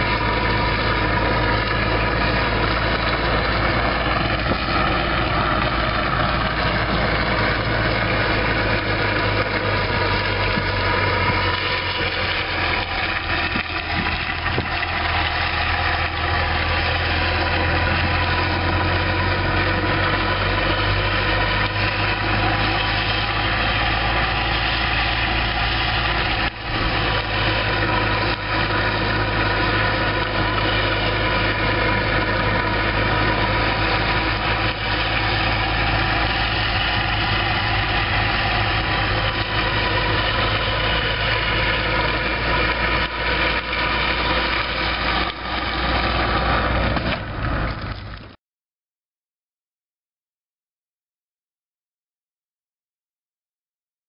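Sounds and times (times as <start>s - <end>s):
vehicle engine running at low revs: 0.0s - 48.4s.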